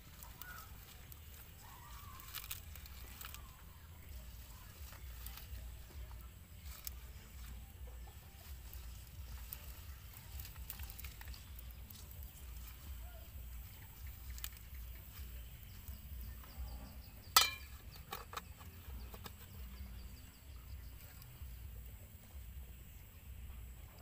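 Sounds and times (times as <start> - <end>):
leaves rustling and crackling: 0.0 - 22.8
low steady rumble: 0.0 - 24.0.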